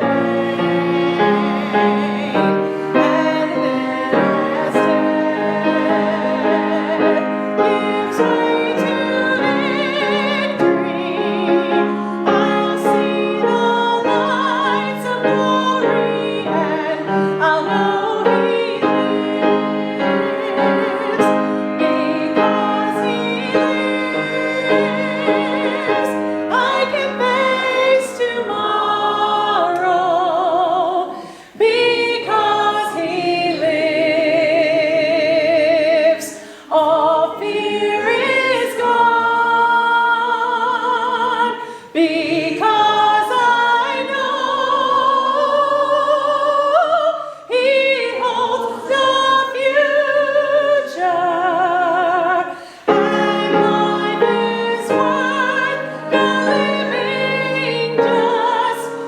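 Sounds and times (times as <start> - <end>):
musical accompaniment: 0.0 - 46.1, 48.0 - 59.0
people singing with vibrato: 0.0 - 59.0.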